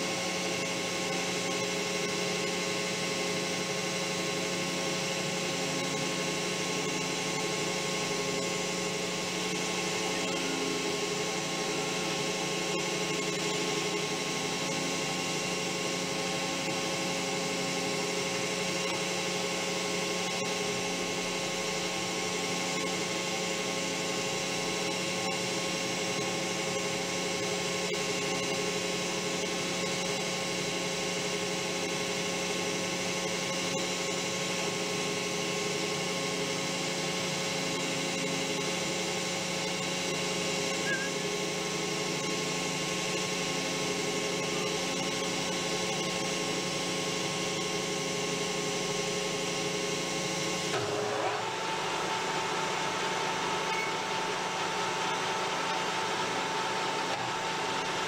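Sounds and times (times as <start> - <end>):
lathe spindle whine: 0.0 - 58.0.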